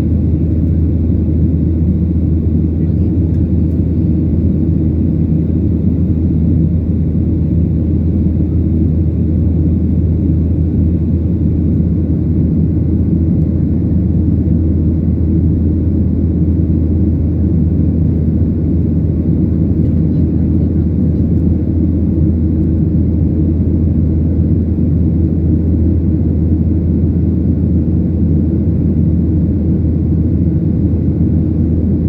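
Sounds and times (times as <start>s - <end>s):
plane engine rumble in cabin: 0.0s - 32.0s.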